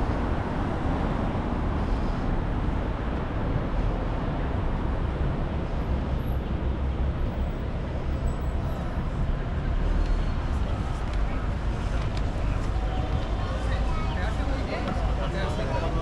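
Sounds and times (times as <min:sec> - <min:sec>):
cars and buses passing: 0:00.0 - 0:16.0
continuous low traffic rumble: 0:00.0 - 0:16.0.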